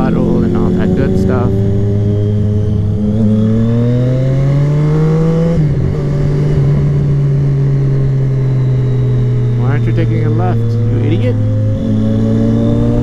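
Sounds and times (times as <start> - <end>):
motorcycle engine accelerating: 0.0 - 13.0
wind rumble on microphone: 0.0 - 13.0.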